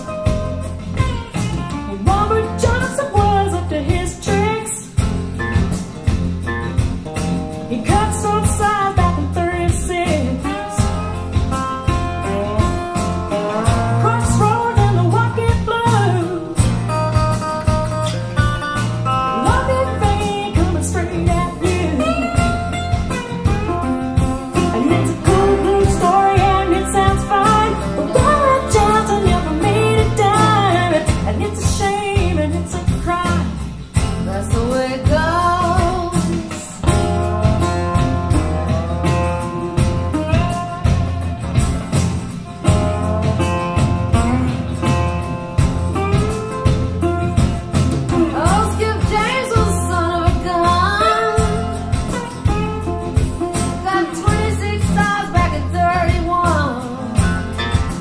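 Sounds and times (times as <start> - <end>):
woman singing blues: 0.0 - 5.7, 7.7 - 17.0, 19.1 - 45.0, 45.9 - 58.0
guitar and bass: 0.0 - 58.0.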